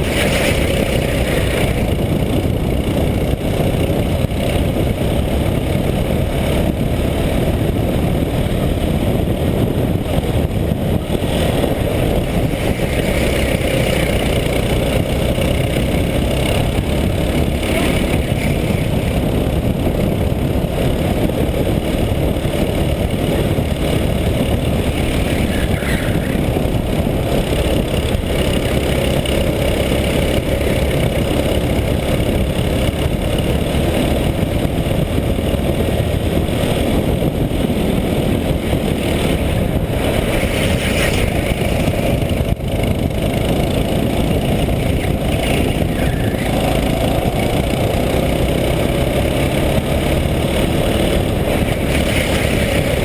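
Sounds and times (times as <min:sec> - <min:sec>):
go-kart engine running hard: 0:00.0 - 0:53.0.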